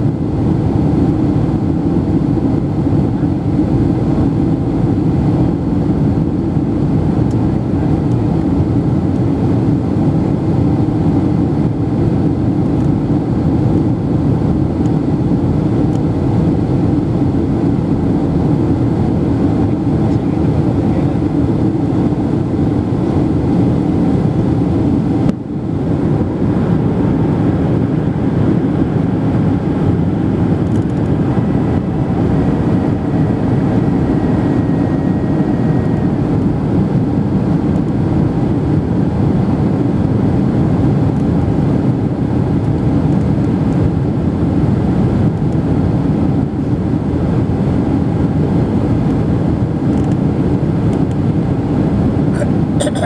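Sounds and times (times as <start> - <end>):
airliner cabin engine and airflow: 0.0 - 53.0.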